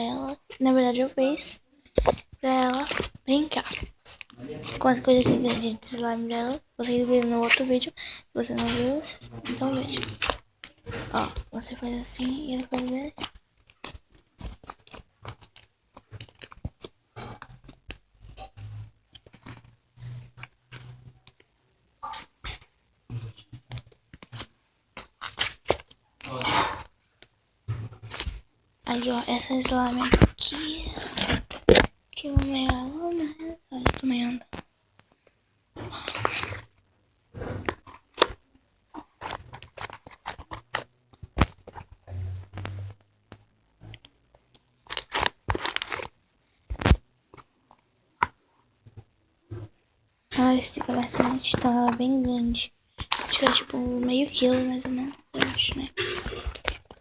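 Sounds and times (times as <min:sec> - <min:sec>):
slime squelching and popping: 0:00.1 - 0:48.4, 0:49.0 - 0:57.0.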